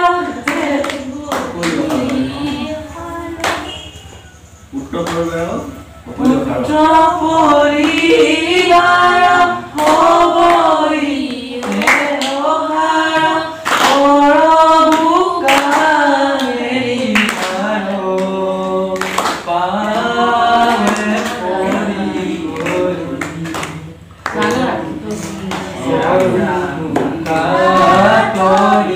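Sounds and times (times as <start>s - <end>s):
group singing devotional song: 0.0s - 28.9s.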